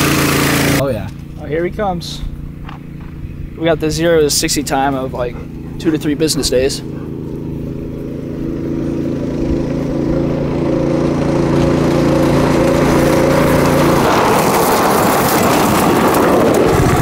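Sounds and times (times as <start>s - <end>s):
go-kart engine at full throttle: 0.0s - 17.0s.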